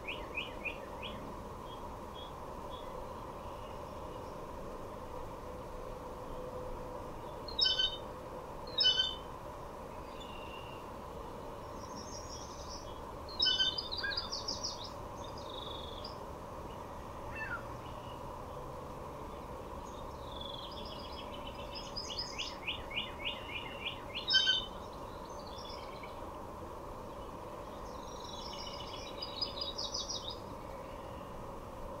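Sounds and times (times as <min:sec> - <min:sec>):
songbirds calling and singing: 0:00.0 - 0:04.5, 0:07.2 - 0:08.1, 0:08.7 - 0:09.3, 0:09.9 - 0:26.4, 0:27.0 - 0:31.5
faint steady hum: 0:00.0 - 0:32.0.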